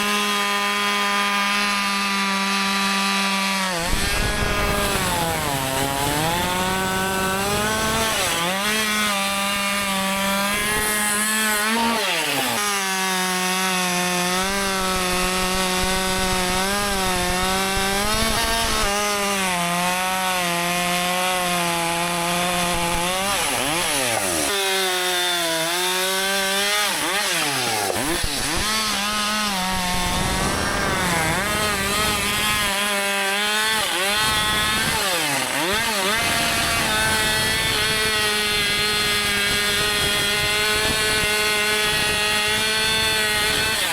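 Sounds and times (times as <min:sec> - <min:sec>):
chainsaw cutting a log: 0:00.0 - 0:43.9.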